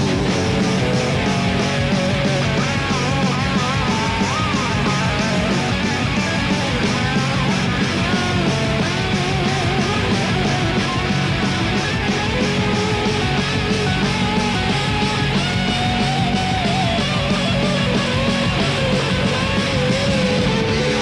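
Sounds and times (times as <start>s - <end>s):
distorted electric guitars: 0.0s - 21.0s
fast drums: 0.0s - 21.0s.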